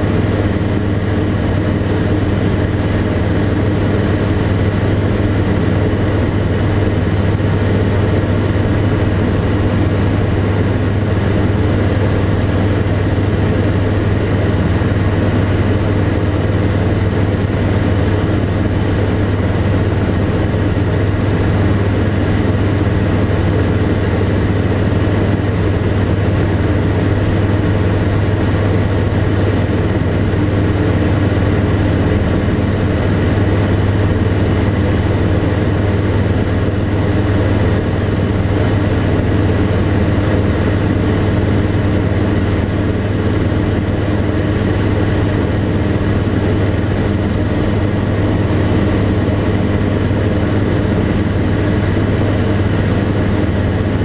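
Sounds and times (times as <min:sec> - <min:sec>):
aircraft engine droning: 0:00.0 - 0:54.0.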